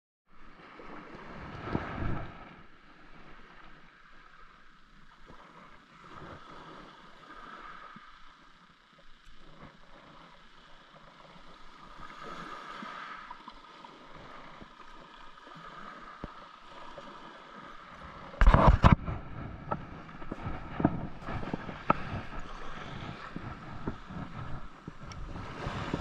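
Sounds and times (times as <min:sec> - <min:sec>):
sea water washing: 0:00.4 - 0:26.0.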